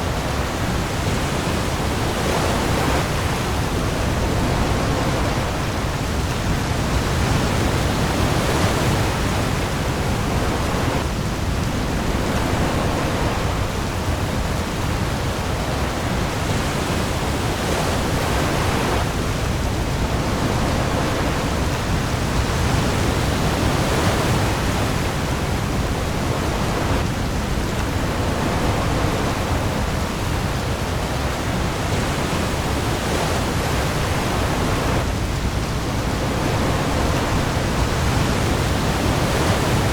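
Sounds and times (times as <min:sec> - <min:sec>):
heavy rain on the sea: 0:00.0 - 0:39.9
waves: 0:00.0 - 0:39.9.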